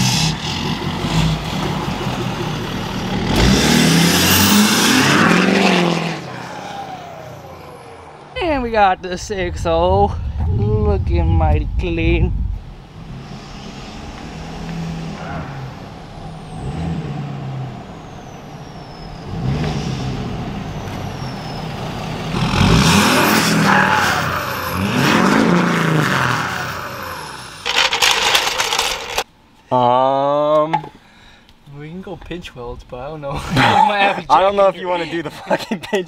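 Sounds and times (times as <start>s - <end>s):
truck engine accelerating: 0.0s - 29.2s.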